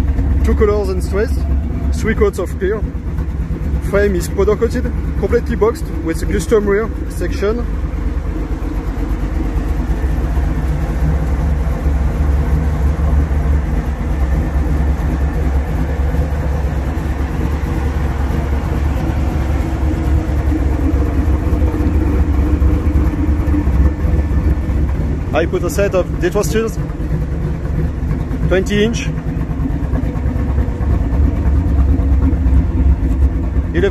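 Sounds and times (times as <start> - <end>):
vee eight engine idling: 0.0 - 33.9.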